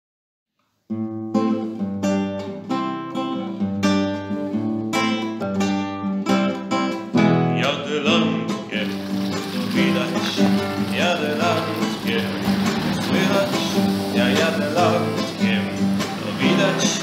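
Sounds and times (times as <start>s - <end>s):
acoustic guitar strumming chords: 0.9s - 17.0s.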